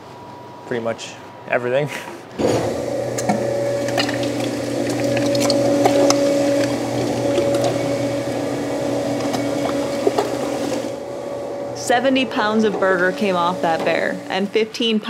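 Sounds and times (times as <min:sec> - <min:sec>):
electric meat grinder humming: 0:02.4 - 0:14.6.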